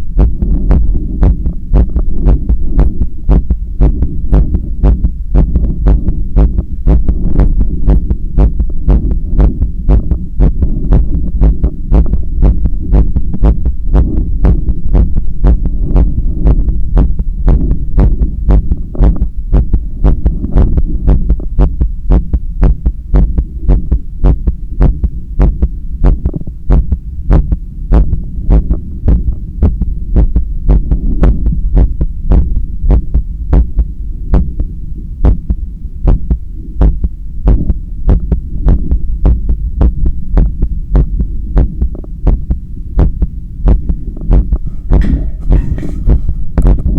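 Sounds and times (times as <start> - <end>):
constant low rumble: 0.0 - 46.9
heartbeat through stethoscope: 0.0 - 46.9.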